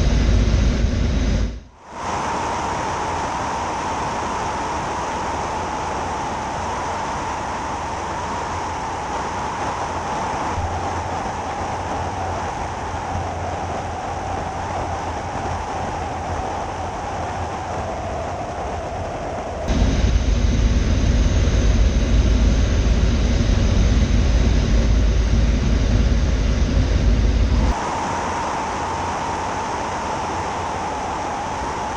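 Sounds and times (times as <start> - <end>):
light aircraft engine droning: 0.0 - 31.9.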